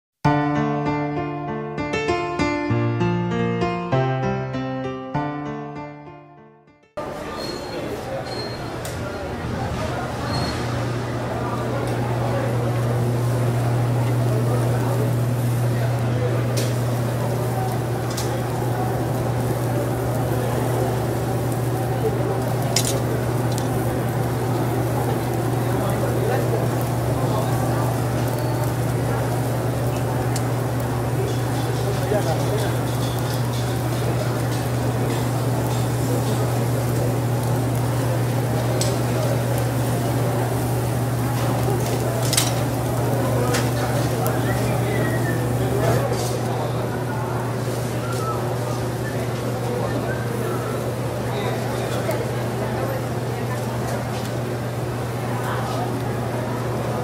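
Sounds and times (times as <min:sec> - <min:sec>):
background chatter: 0:07.0 - 0:57.0
grill sizzling: 0:07.5 - 0:57.0.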